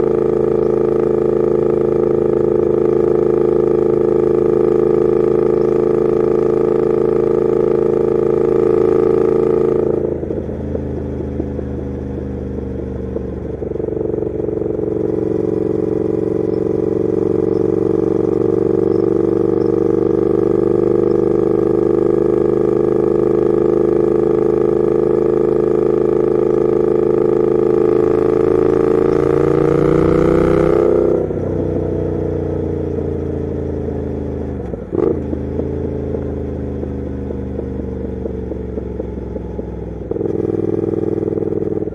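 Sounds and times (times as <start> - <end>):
motorcycle engine: 0.0 - 41.9.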